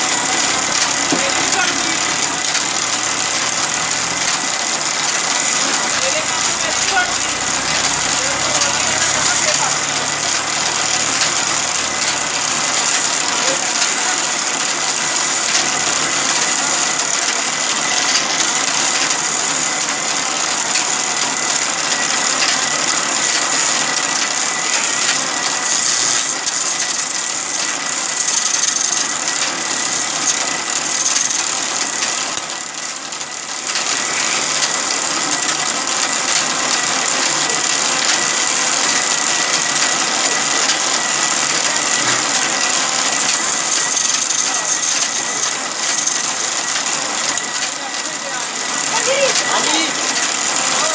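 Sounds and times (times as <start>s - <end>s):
high machine whine: 0.0s - 50.9s
sawmill machinery rattling: 0.0s - 50.9s.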